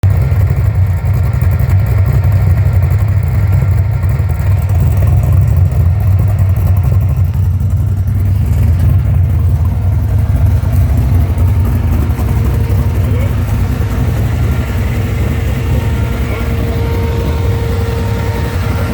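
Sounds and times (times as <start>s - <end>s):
engine running with deep exhaust: 0.0s - 18.9s.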